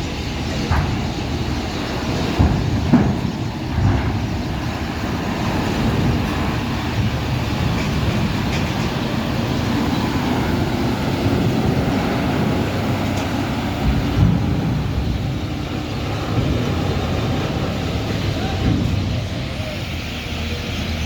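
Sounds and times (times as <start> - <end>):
large vehicle rumbling: 0.0 - 21.0.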